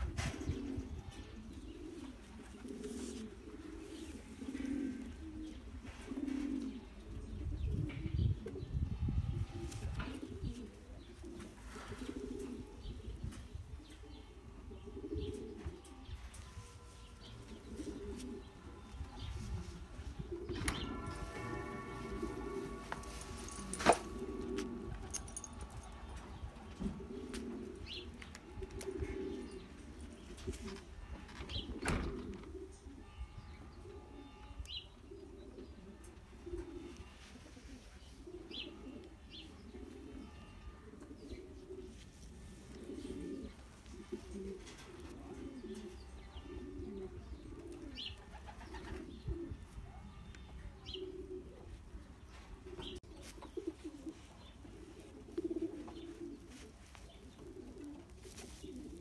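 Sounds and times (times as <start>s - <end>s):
pigeons cooing: 0.0s - 49.8s, 50.8s - 59.0s.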